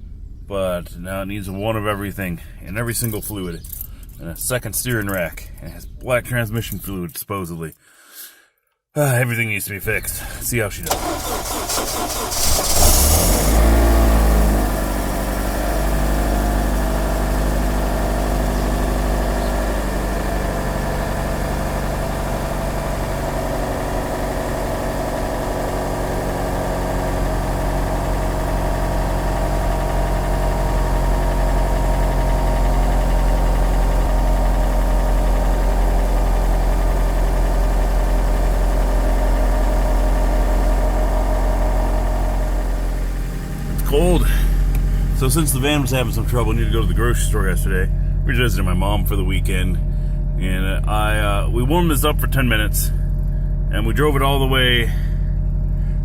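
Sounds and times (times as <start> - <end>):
car engine cold-starting and idling: 9.9 - 56.0.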